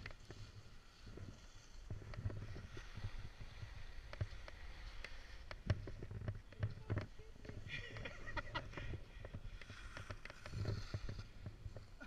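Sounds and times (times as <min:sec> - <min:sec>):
skis and poles clicking on snow: 0:00.0 - 0:12.0.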